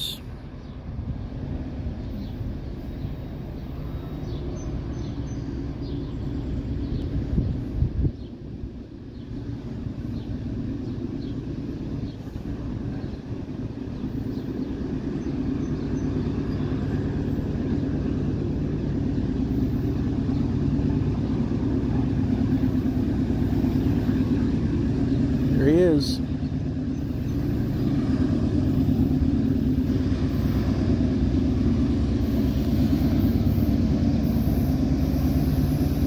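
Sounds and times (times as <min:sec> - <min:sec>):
diesel locomotives engine drone: 0:00.0 - 0:36.0.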